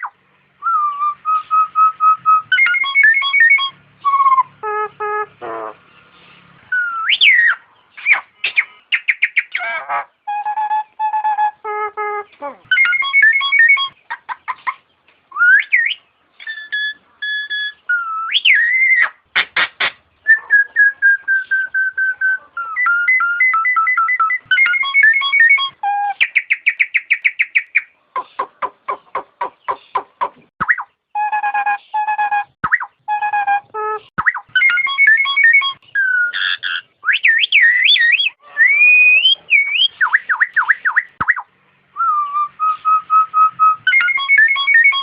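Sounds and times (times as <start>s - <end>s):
myna whistling calls: 0.0s - 45.0s.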